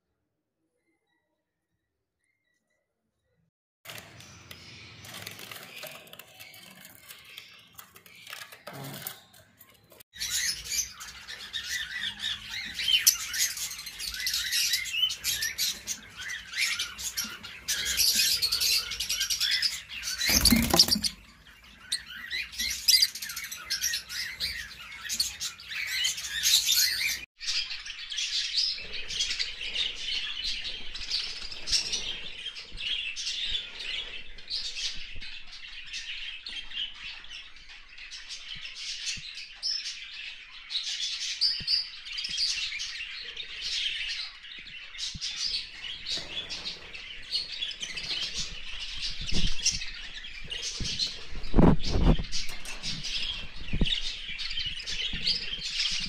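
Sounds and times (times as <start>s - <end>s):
small birds chirping: 0.6s - 56.0s.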